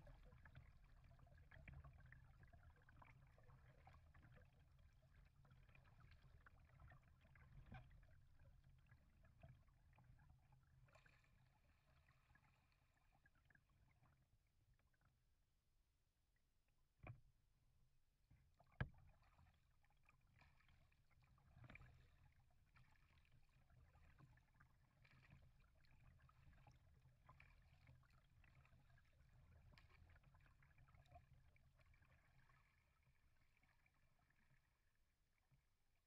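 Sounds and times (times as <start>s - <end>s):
water lapping against kayak hull: 0.0s - 15.1s, 18.4s - 35.6s
small ticks and splashes: 0.0s - 15.4s, 16.3s - 36.0s.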